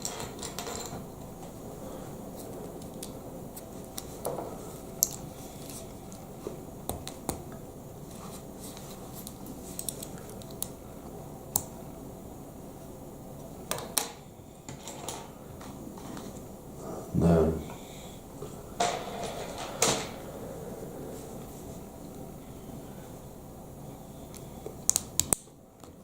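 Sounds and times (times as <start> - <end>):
background noise: 0.0 - 26.0.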